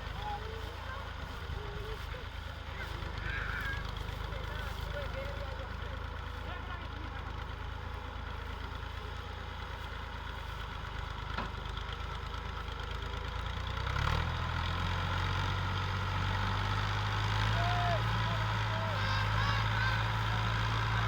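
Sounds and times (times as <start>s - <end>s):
diesel tractor engine labouring: 0.0s - 21.0s.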